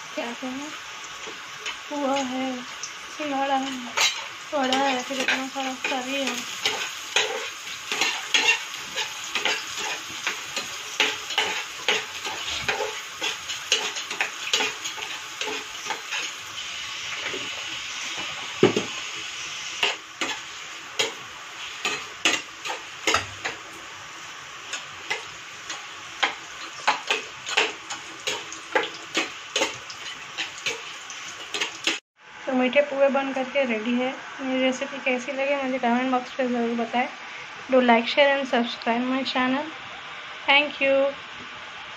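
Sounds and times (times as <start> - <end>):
oil sizzling while deep-frying: 0.0 - 41.9.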